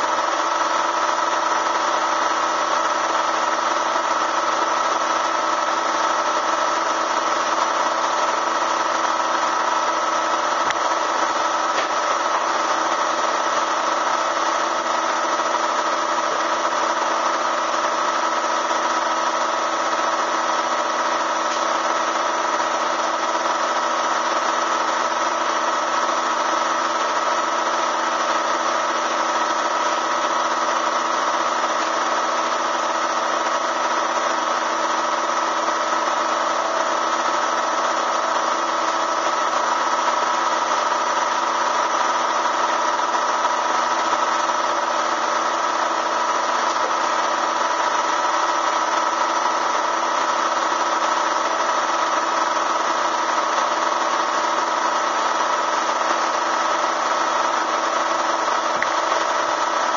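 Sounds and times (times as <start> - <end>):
vacuum motor high whine: 0.0 - 59.9.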